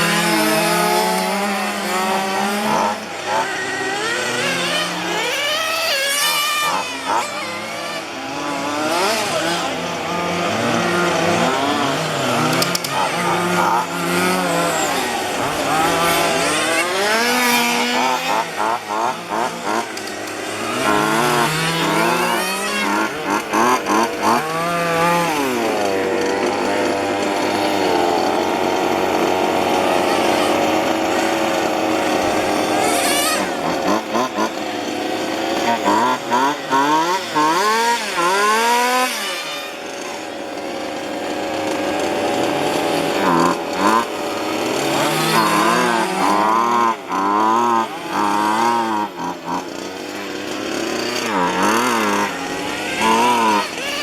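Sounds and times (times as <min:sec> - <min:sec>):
small engines revving: 0:00.0 - 0:54.0.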